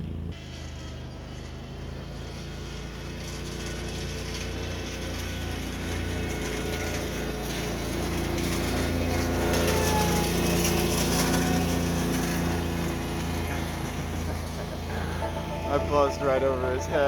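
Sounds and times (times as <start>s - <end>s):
lawn mower engine running: 0.0s - 17.0s
model airplane motor whining: 0.0s - 17.0s.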